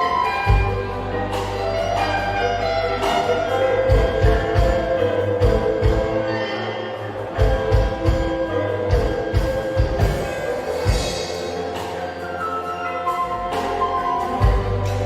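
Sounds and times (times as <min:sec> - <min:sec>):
bass drum beats: 0:00.0 - 0:06.3, 0:07.3 - 0:12.2, 0:13.4 - 0:15.0
bass guitar: 0:00.0 - 0:15.0
guitar: 0:00.0 - 0:15.0.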